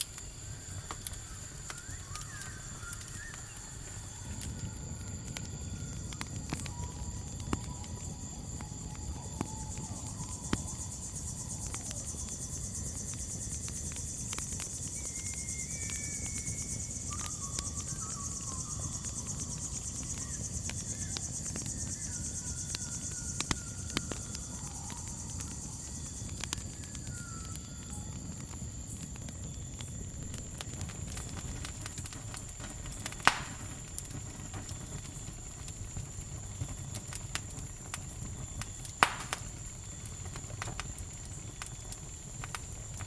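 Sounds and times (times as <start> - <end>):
faint whistled calls: 0.0 - 28.4, 30.5 - 36.7
campfire crackling: 0.0 - 43.0
crickets chirring: 0.0 - 43.0.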